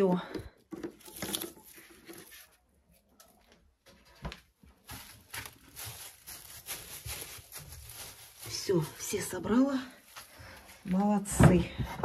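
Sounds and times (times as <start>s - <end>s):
soft rustling: 1.0s - 11.9s.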